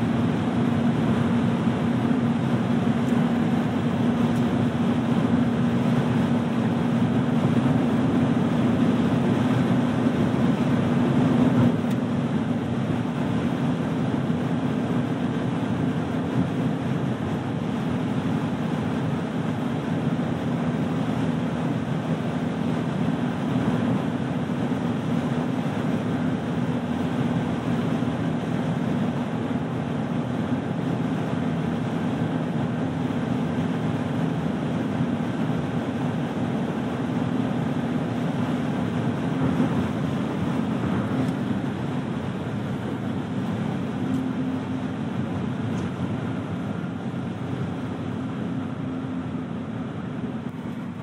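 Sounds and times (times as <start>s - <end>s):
car engine drone: 0.0s - 51.0s
wind and tyre noise: 0.0s - 51.0s.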